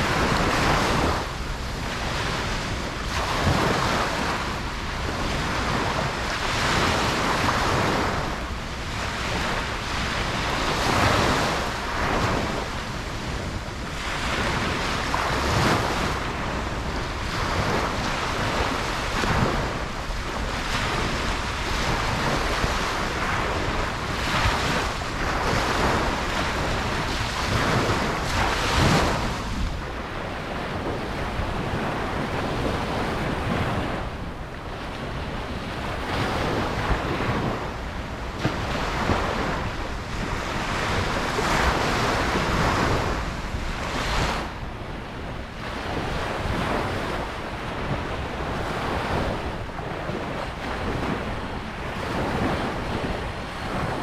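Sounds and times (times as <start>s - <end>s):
ocean waves breaking: 0.0s - 54.0s
wind noise on microphone: 0.0s - 54.0s.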